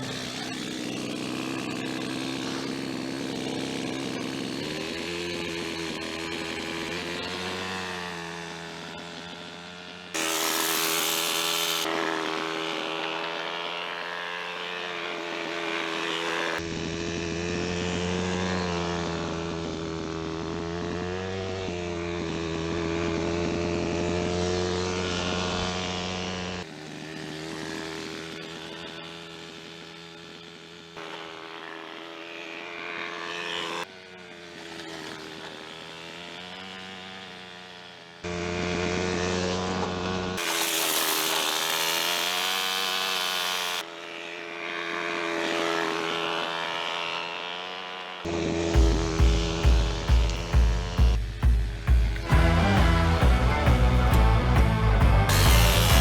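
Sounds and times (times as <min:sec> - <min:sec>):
model car engine revving: 0:00.0 - 0:56.0.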